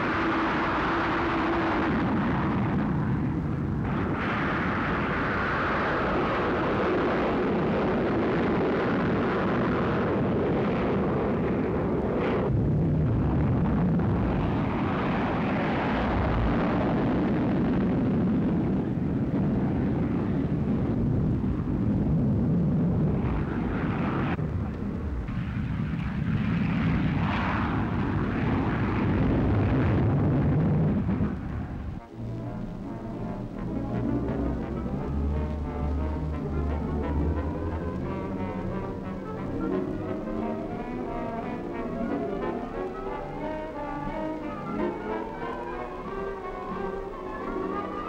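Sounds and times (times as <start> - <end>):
rocket engines firing: 0.0 - 45.0.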